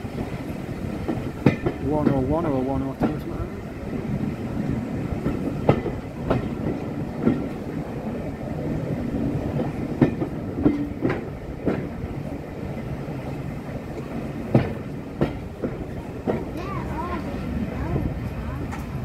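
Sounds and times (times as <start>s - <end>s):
train coach rumbling on track: 0.0s - 19.0s
wheels clicking over rail joints: 0.0s - 19.0s.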